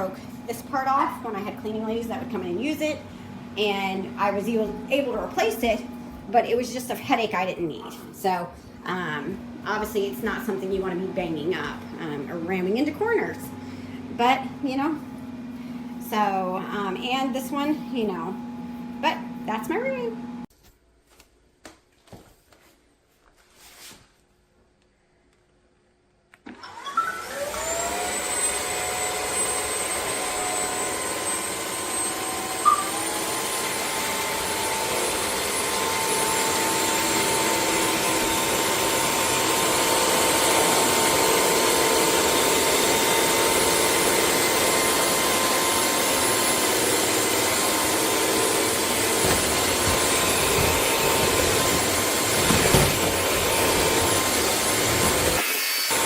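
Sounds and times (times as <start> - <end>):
vacuum cleaner motor whine: 0.0 - 20.5, 26.4 - 56.0.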